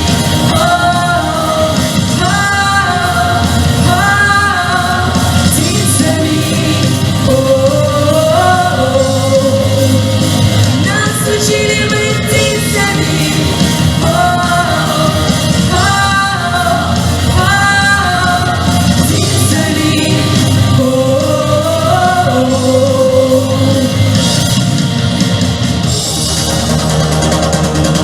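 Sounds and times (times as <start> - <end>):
person singing long notes: 0.0 - 24.6
full band accompaniment: 0.0 - 28.0.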